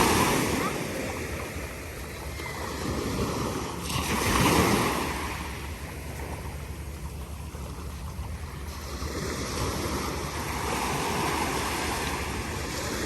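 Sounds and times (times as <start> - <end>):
ocean wave breaking: 0.0 - 13.0.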